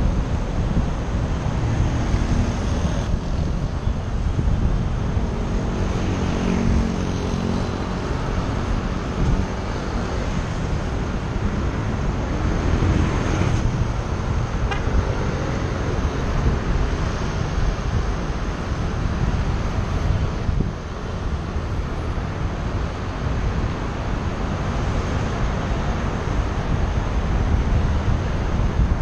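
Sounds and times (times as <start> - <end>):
road traffic: 0.0 - 29.0
vehicle engine hum: 0.0 - 29.0
wind rush on microphone: 0.0 - 29.0.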